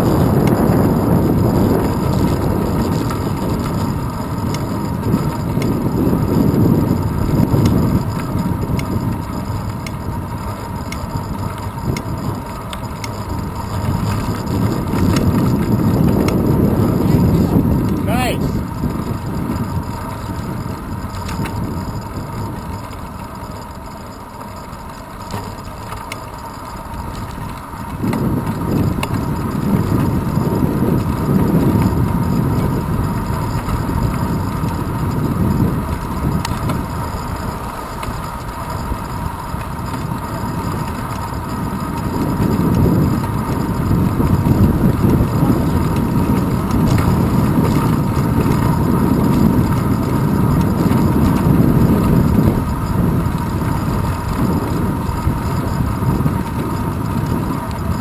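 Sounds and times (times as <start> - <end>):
bicycle road rumble: 0.0 - 58.0
wind buffeting: 0.0 - 58.0.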